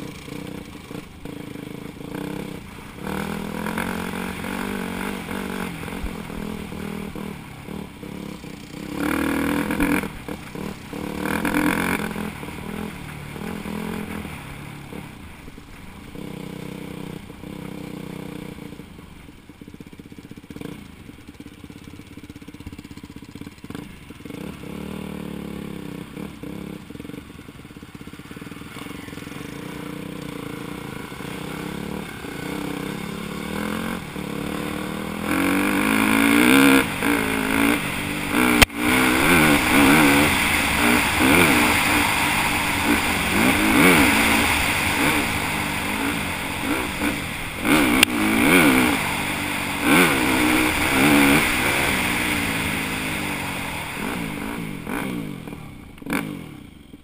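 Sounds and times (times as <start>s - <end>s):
dirt bike engine revving: 0.0s - 18.9s, 21.9s - 57.0s.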